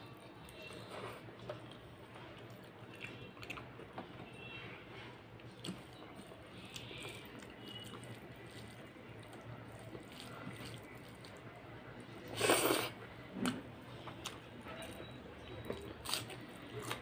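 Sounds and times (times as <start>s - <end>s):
wet chewing and mouth sounds: 0.0s - 4.1s, 5.2s - 17.0s.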